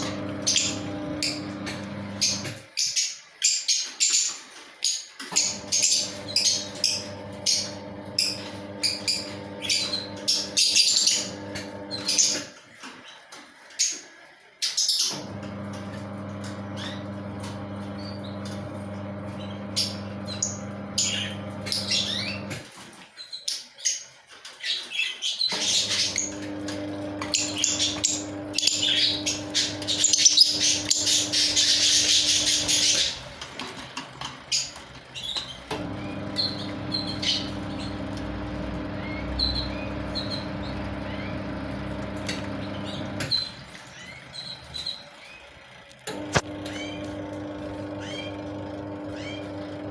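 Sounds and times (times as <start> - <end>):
steady mechanical hum: 0.0 - 3.0, 5.2 - 22.8, 25.5 - 49.9
lovebirds chirping and squawking: 0.0 - 15.2, 16.0 - 45.7, 46.6 - 49.9.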